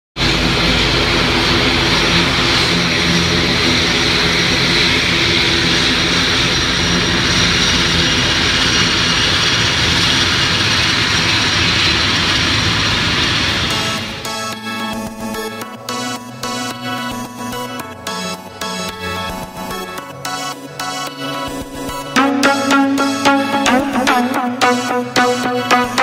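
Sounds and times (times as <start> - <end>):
high turbine whine: 0.2 - 18.4, 21.9 - 26.0
turboprop propeller drone: 0.2 - 26.0.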